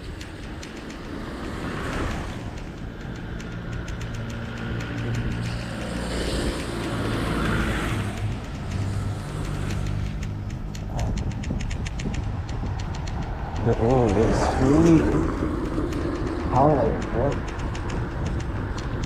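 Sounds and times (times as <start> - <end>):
passing traffic: 0.0 - 19.0
vehicle engines humming: 0.0 - 19.0.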